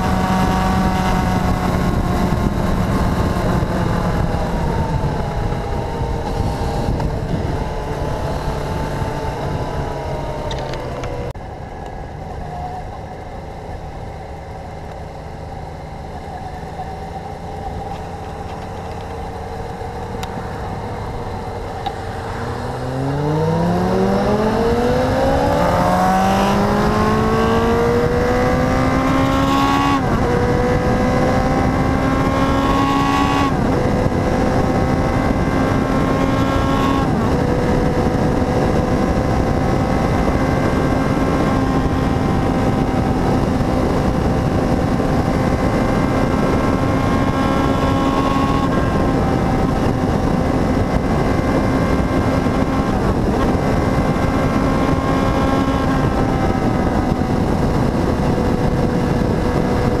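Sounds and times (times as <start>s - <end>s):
motorcycle engine running: 0.0s - 60.0s
rush of wind noise: 0.0s - 60.0s.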